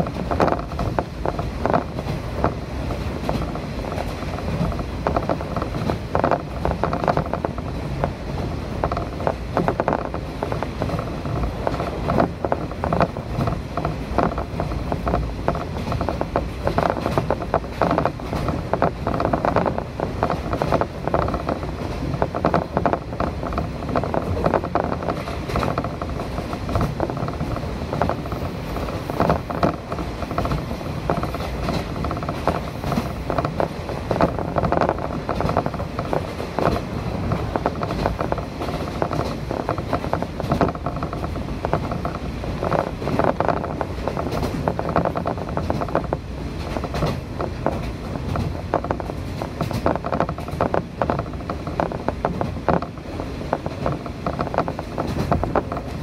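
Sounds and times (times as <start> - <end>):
train rumbling: 0.0 - 56.0
wheels clattering on track: 0.0 - 56.0.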